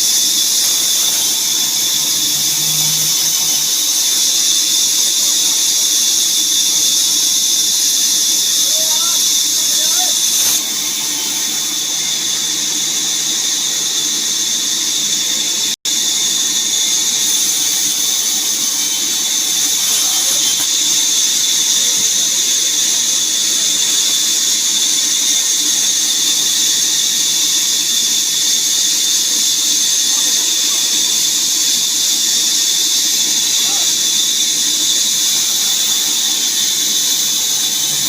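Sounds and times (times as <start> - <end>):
power saw whining: 0.0 - 38.0.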